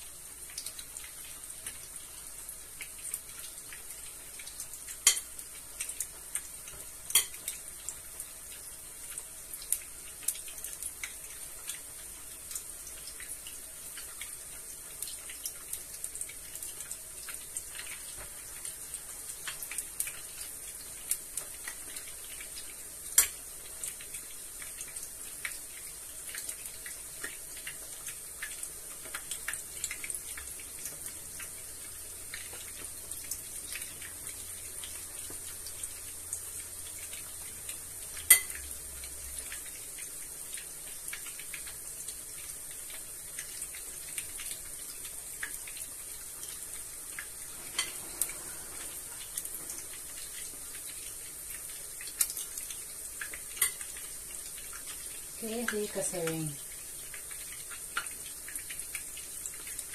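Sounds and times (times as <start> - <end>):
meatballs sizzling in hot oil: 0.0 - 59.9.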